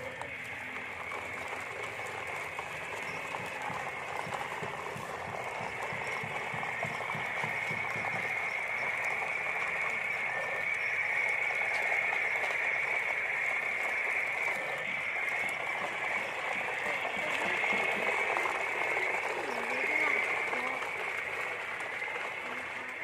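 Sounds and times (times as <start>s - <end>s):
plastic wheels rattling on bricks: 0.0s - 23.0s.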